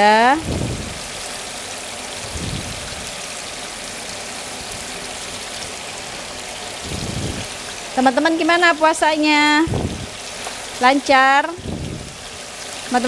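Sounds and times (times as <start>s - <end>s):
shrimp sizzling in oil: 0.0s - 13.0s.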